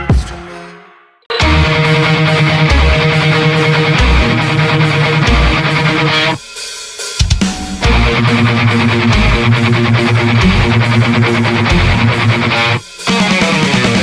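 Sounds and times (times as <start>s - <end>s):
rock song with guitar and drums: 1.3s - 6.6s, 7.2s - 14.0s.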